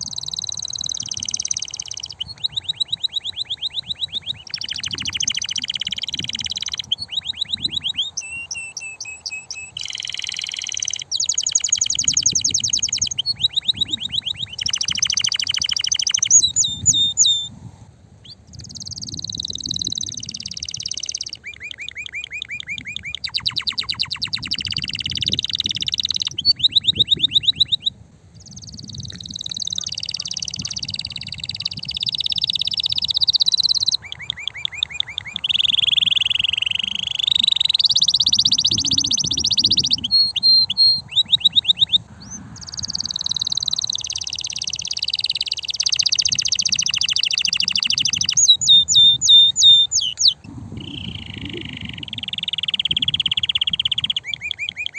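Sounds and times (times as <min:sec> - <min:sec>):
canary singing loud trills: 0:00.0 - 0:17.6, 0:18.2 - 0:54.9.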